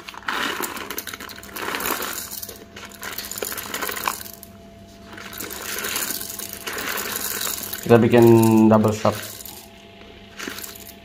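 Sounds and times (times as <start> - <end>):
coffee beans rattling into grinder: 0.0 - 11.0.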